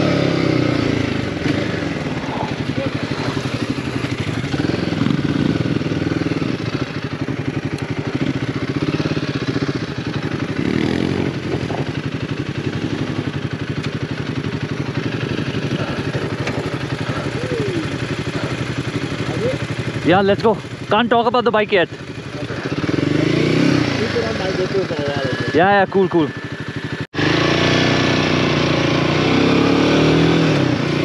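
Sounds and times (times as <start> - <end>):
motorcycle engine running at low revs: 0.0 - 31.0.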